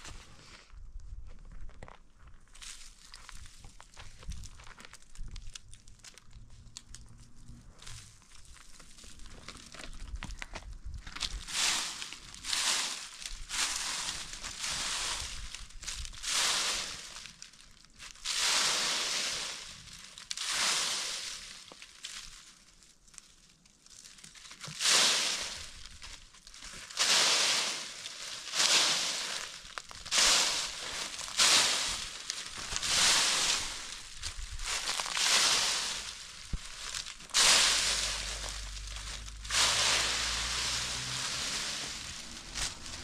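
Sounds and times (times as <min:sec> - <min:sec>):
rough crunching strokes: 0:00.0 - 0:43.0.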